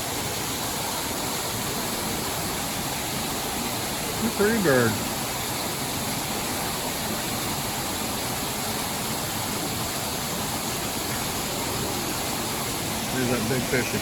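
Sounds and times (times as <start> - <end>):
small waterfall rushing: 0.0 - 14.0.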